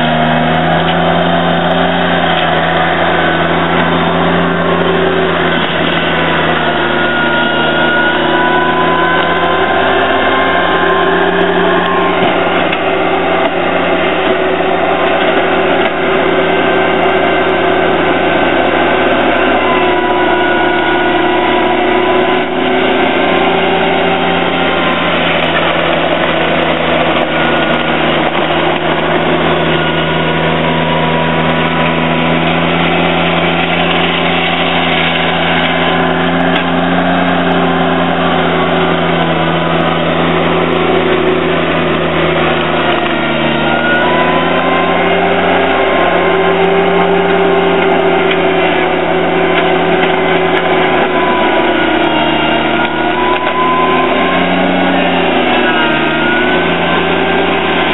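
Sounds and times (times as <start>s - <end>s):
garden tractor engine running: 0.0s - 57.9s.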